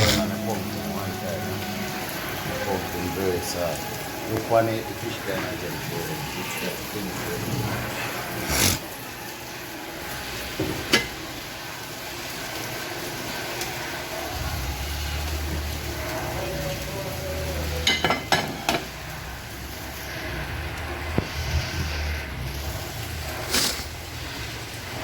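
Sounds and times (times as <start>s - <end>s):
pots cooking with steady hiss: 0.0s - 25.0s.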